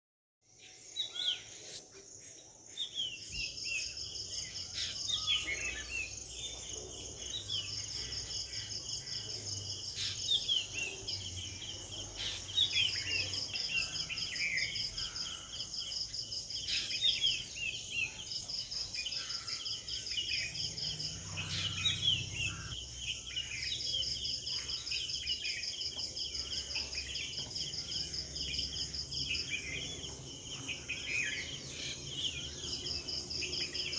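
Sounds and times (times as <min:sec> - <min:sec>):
birds chirping: 0:00.5 - 0:33.9
insects trilling: 0:00.6 - 0:33.9.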